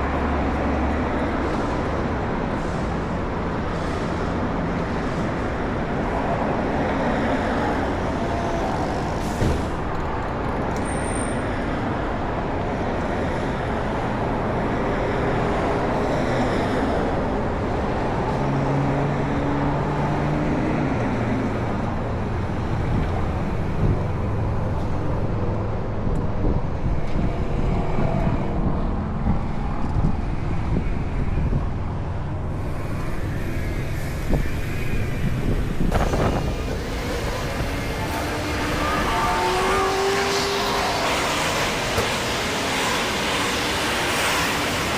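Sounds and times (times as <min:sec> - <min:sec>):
engine hum: 0:00.0 - 0:44.9
road traffic noise: 0:00.0 - 0:44.9.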